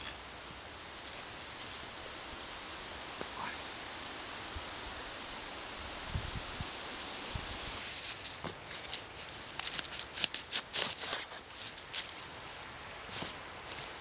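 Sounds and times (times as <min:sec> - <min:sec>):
leaves and stems rustling: 0:00.0 - 0:14.0.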